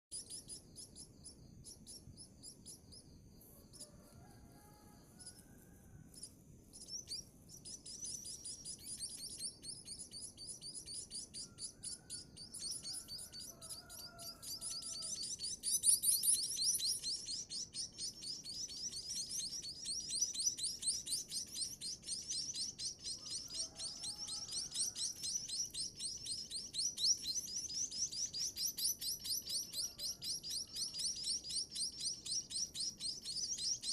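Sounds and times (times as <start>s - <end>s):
chicks chirping for food: 0.1s - 33.9s.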